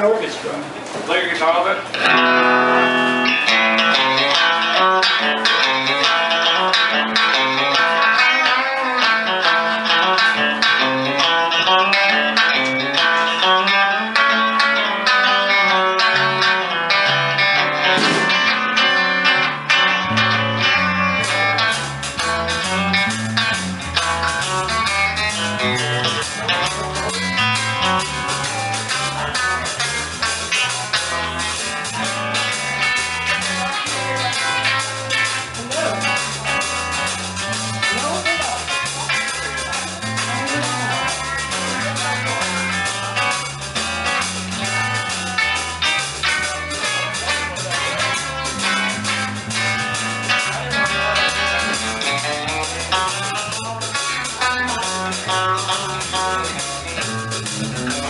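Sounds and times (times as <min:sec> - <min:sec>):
drums: 0:00.0 - 0:58.0
guitar playing: 0:01.8 - 0:58.0
bass line: 0:02.0 - 0:58.0.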